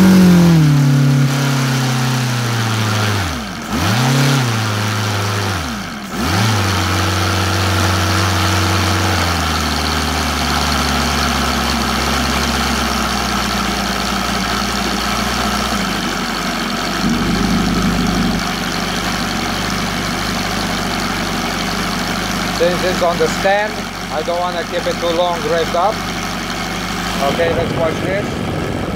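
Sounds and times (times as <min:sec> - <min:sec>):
model engine running at high revs: 0:00.0 - 0:28.9.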